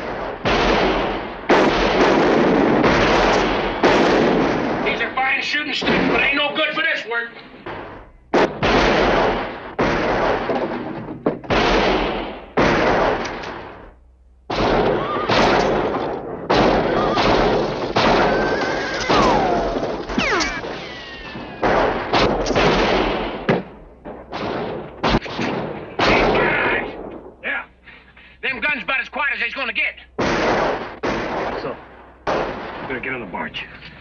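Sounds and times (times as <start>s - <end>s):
rifle shots echoing: 0.0s - 6.6s, 7.6s - 27.4s, 30.2s - 33.6s.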